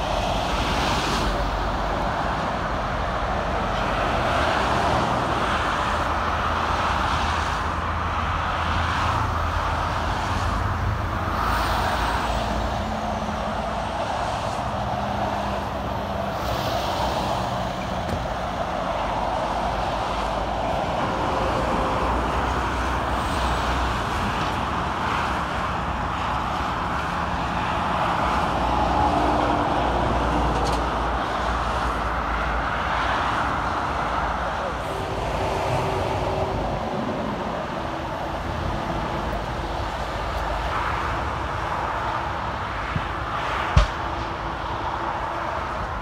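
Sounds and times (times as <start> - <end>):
motorway traffic passing: 0.0 - 46.0.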